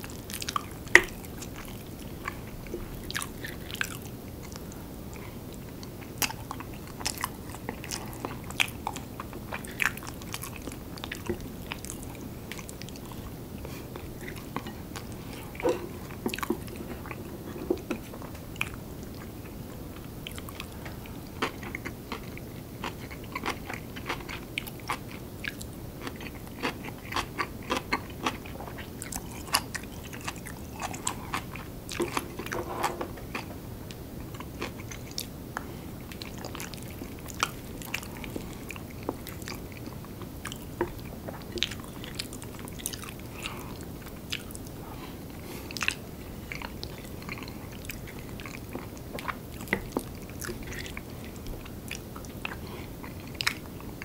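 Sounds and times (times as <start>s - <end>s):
close chewing: 0.0s - 54.0s.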